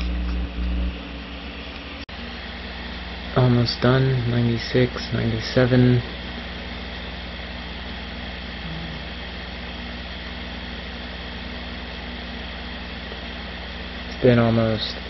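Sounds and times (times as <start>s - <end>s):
constant low hum: 0.0s - 15.0s
fan-like hiss: 0.0s - 15.0s.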